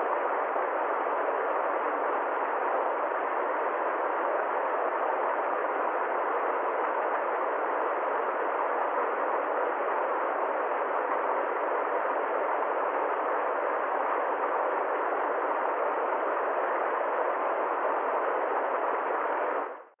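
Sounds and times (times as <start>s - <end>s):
waterfall rushing over rocks: 0.0s - 19.7s.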